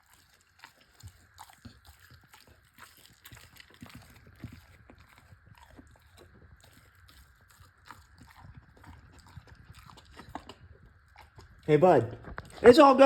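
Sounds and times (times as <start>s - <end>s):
dog chewing and biting meat: 0.0s - 13.0s.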